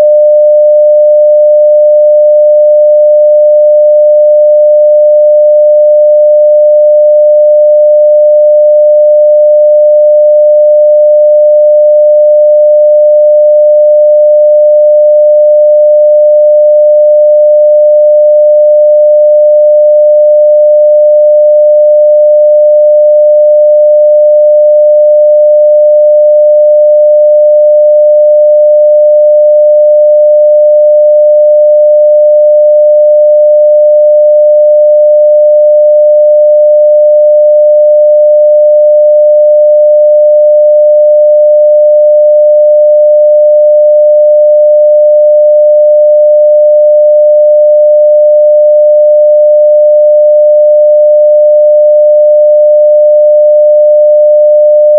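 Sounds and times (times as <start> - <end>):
sine-wave test tone: 0.0 - 54.9.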